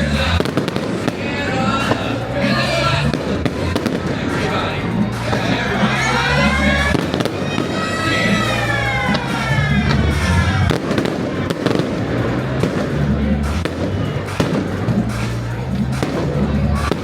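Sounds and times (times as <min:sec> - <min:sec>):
fireworks banging: 0:00.0 - 0:17.0
loud music with bass line: 0:00.0 - 0:17.0.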